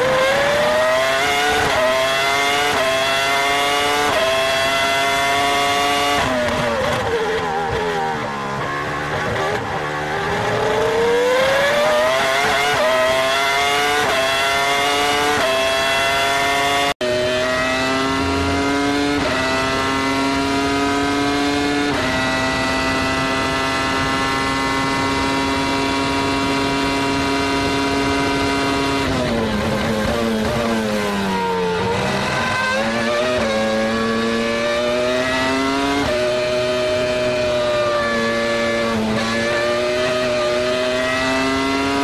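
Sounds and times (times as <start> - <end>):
racing car engine at full throttle: 0.0 - 42.0
racing car engine upshifting: 0.0 - 42.0.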